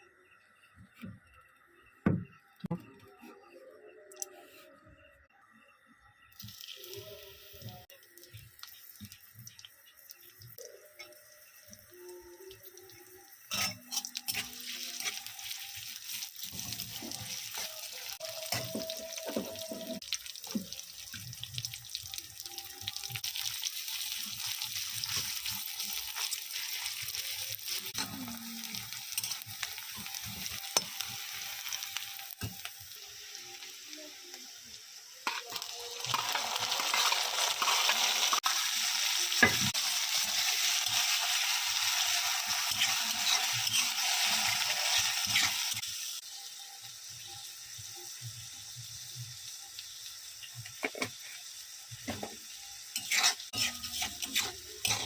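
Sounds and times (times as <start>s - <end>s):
food sizzling in hot oil: 5.8s - 55.0s.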